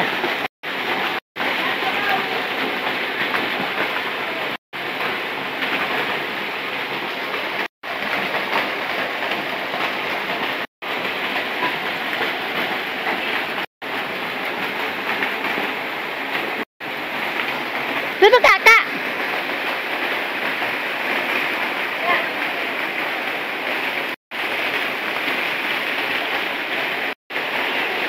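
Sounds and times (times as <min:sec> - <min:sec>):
waterfall splashing into pool: 0:00.0 - 0:28.0.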